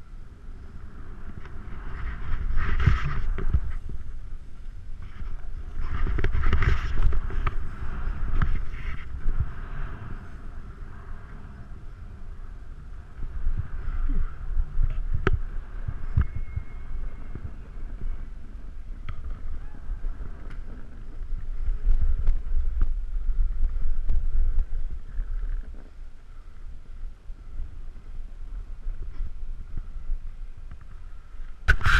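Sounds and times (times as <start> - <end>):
wind buffeting microphone: 0.0 - 31.9
board sliding over snow: 0.2 - 26.4, 27.5 - 31.9.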